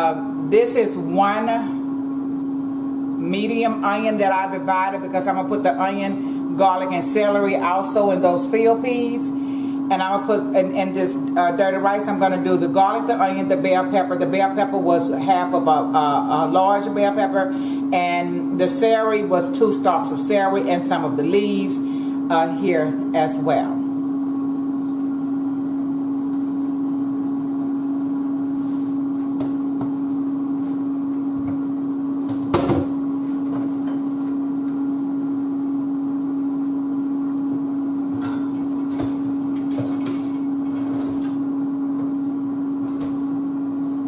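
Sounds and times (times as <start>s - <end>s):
kitchen appliance humming: 0.0s - 44.0s.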